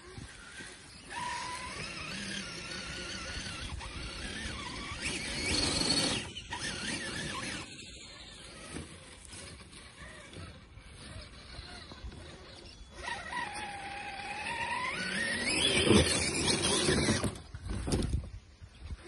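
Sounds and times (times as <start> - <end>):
tyres scrabbling through leaves: 0.0 - 18.1
electric motor whining: 0.0 - 19.0.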